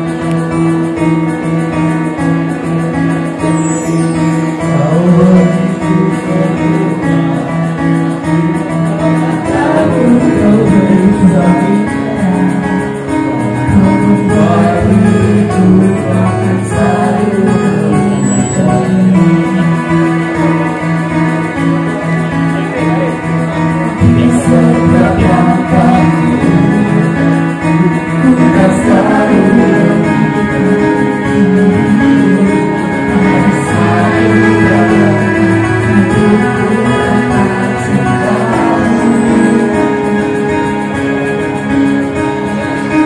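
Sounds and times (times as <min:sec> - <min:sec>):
instrumental backing music: 0:00.0 - 0:43.0
man singing into microphone: 0:03.4 - 0:43.0.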